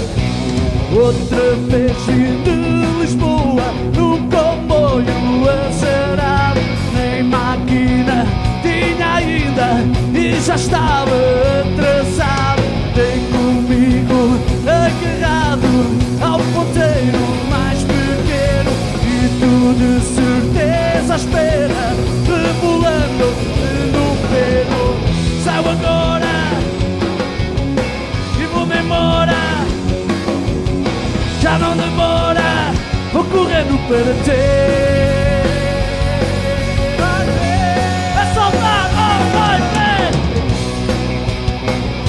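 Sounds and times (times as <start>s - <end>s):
bass guitar: 0.0s - 42.0s
distorted electric guitars: 0.0s - 42.0s
drum kit: 0.0s - 42.0s
man singing: 0.8s - 26.8s, 28.2s - 29.9s, 31.2s - 40.4s.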